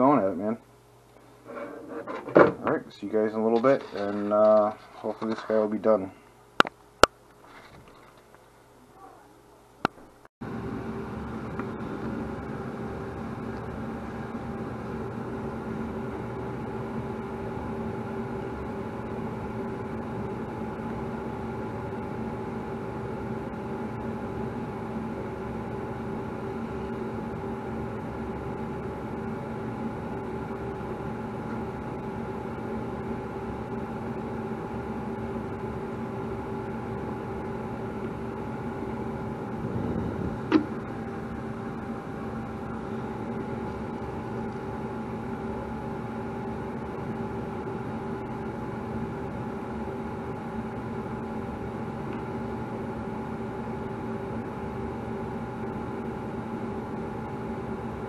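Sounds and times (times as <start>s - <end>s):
steady machine hum: 0.0s - 7.3s, 8.4s - 58.0s.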